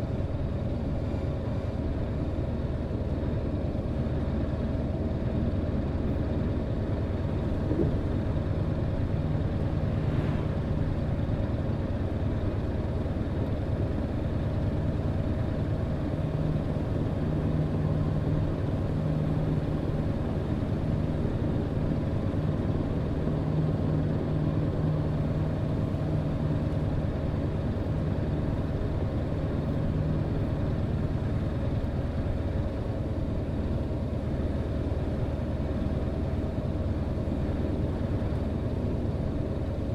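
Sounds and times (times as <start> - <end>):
truck engine droning: 5.6 - 39.9
road noise: 6.1 - 39.8.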